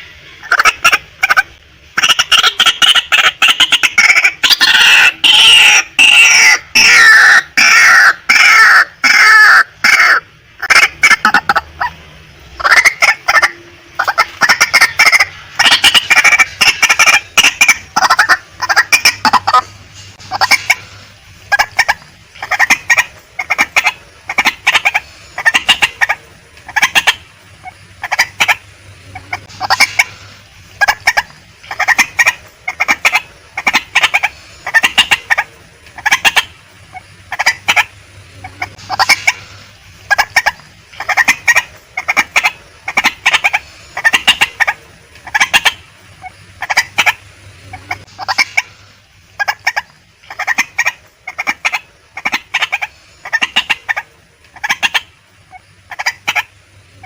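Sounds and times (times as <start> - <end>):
waterhen clucking calls: 0.0 - 57.0.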